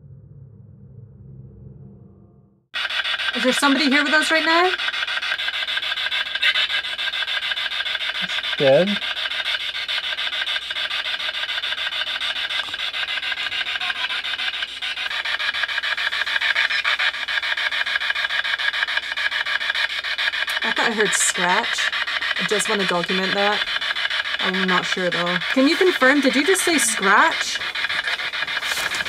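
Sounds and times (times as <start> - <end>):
raspy radio static chatter: 2.8 - 29.0.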